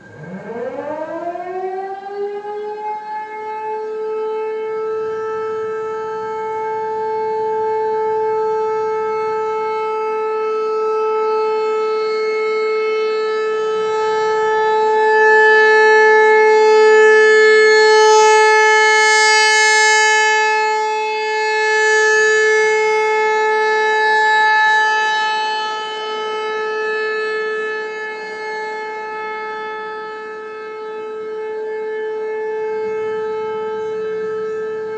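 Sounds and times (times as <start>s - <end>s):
outdoor warning siren: 0.0s - 34.9s.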